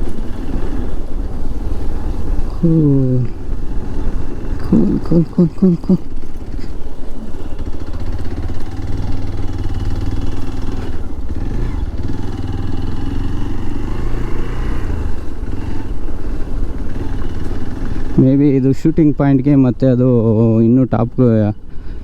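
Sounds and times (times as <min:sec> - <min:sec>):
motorcycle engine running: 0:00.0 - 0:18.6.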